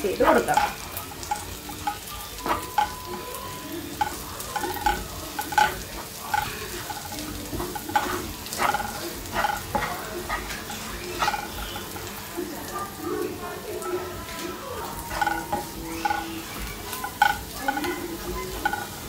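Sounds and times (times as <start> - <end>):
onions sizzling in a frying pan: 0.0 - 19.0
spatula scraping a pan: 0.1 - 13.0, 13.9 - 19.0.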